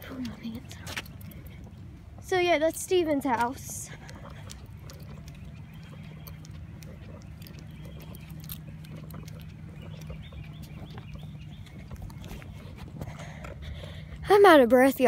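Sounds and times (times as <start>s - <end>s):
footsteps on pavement: 0.0s - 15.0s
steady low hum: 0.0s - 15.0s.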